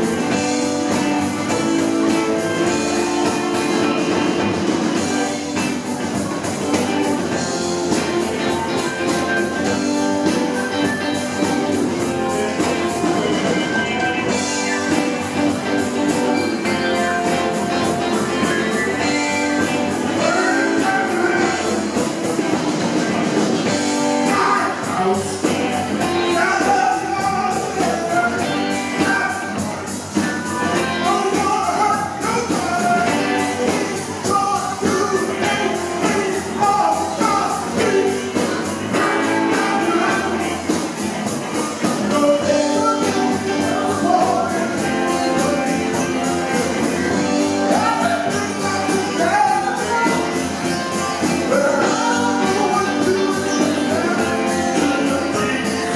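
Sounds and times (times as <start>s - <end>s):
bass guitar: 0.0s - 55.9s
drums: 0.0s - 55.9s
electric guitars: 0.0s - 55.9s
keyboard: 0.0s - 55.9s.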